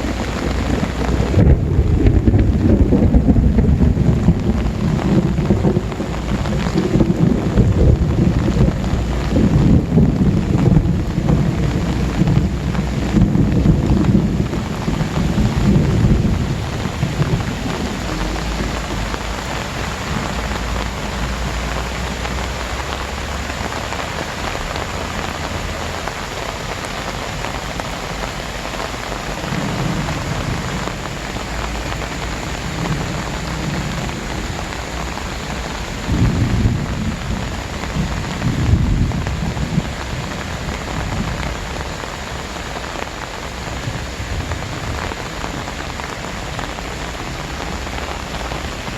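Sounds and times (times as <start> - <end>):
heavy rain pouring: 0.0 - 48.9
low rumbles: 0.0 - 48.9.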